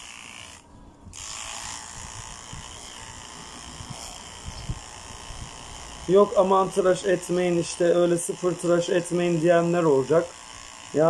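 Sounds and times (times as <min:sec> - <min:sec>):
electric clipper buzzing: 0:00.0 - 0:11.0.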